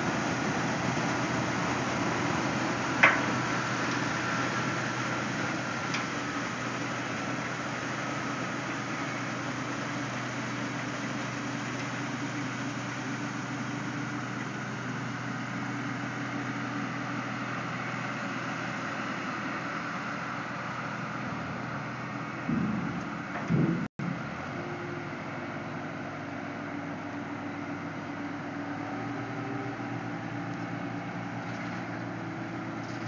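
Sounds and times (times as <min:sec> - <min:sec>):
tractor and truck engines running: 0:00.0 - 0:33.0.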